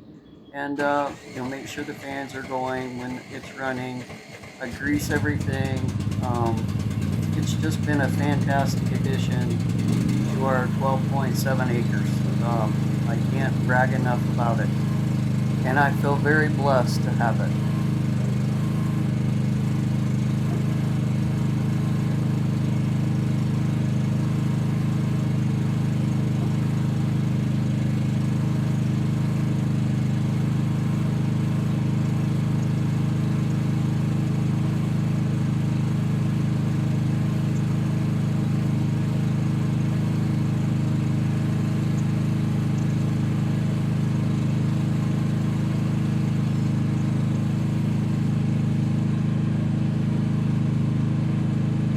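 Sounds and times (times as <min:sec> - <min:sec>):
excavator engine humming: 0:00.0 - 0:51.9.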